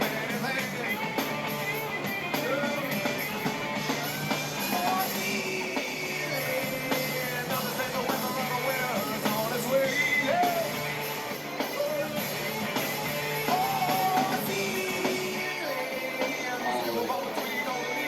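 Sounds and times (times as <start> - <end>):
rock song with singing: 0.0 - 18.0.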